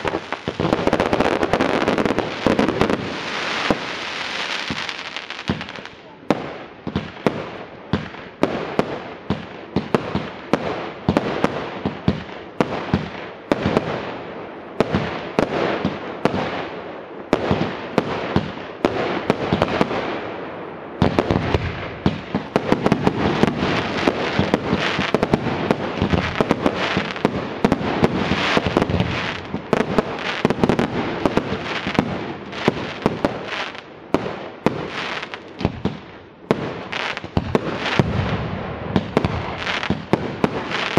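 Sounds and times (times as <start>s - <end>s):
fireworks bangs and crackle: 0.0s - 40.9s.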